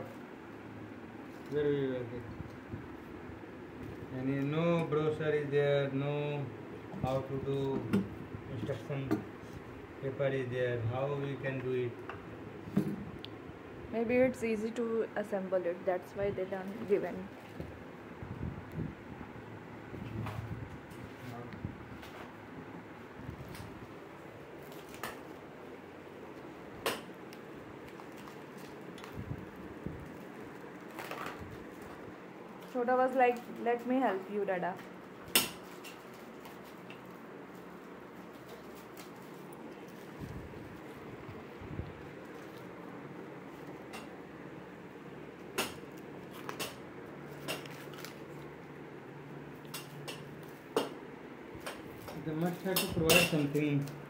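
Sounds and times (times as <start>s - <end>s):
steady background hum: 0.0s - 54.0s.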